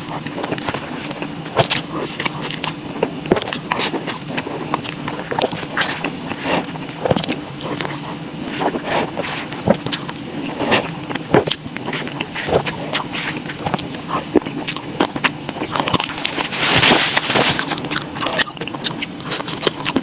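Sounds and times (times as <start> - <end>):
steady low hum: 0.0 - 20.0
wet chewing mouth clicks: 0.0 - 20.0.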